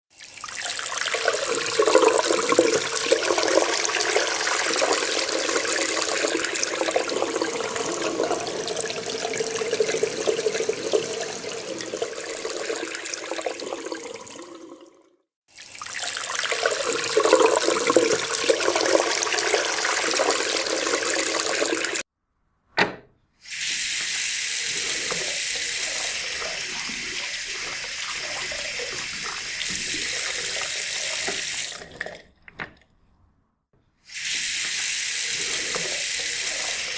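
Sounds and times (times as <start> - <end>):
water running from a tap: 0.1 - 22.1, 23.4 - 32.2, 34.1 - 36.9.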